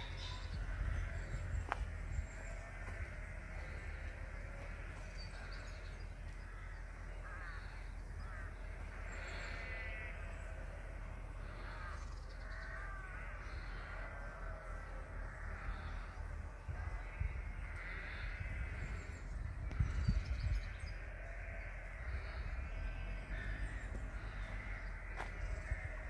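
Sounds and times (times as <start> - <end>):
steady low rumble: 0.0 - 12.0, 15.2 - 26.0
birds calling: 0.0 - 26.0.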